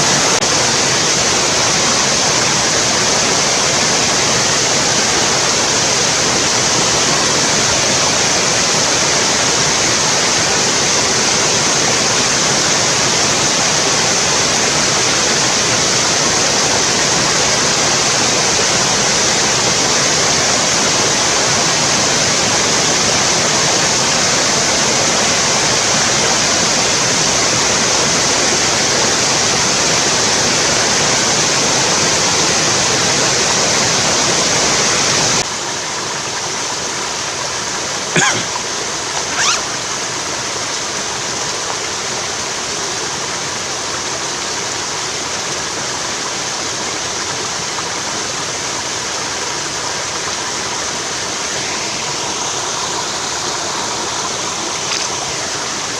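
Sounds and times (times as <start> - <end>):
stream rushing water: 0.0 - 55.9.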